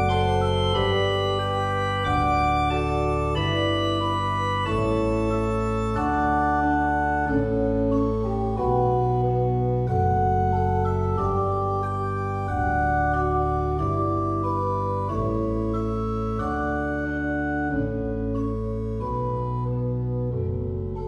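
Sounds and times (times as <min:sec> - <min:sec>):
music of sustained chords: 0:00.0 - 0:21.0.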